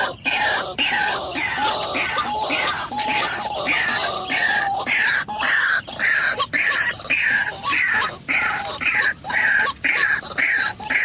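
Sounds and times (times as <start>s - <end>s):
waterhen calling harshly: 0.0s - 11.0s.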